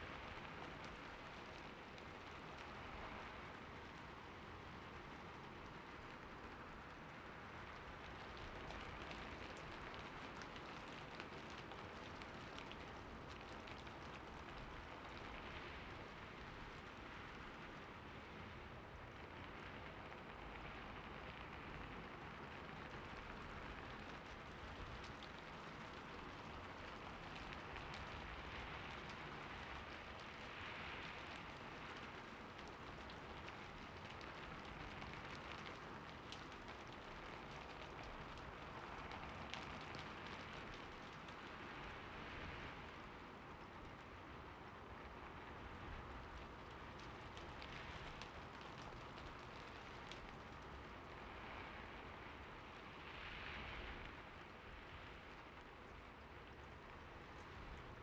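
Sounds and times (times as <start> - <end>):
raindrop patter: 0.0 - 58.0
soft rain falling: 0.0 - 58.0.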